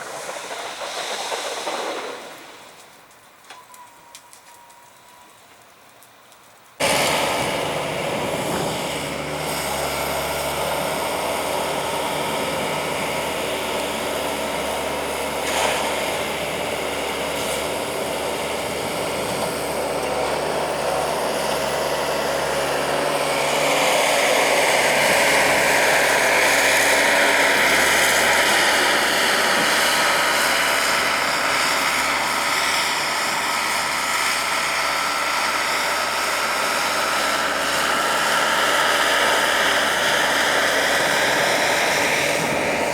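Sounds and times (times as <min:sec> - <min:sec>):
vehicle engine running: 0:06.8 - 0:42.9.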